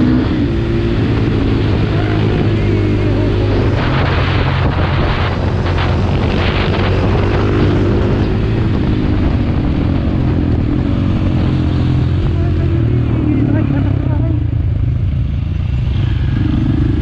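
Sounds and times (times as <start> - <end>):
wind rushing on microphone: 0.0 - 14.7
motorcycle engine running: 0.0 - 17.0.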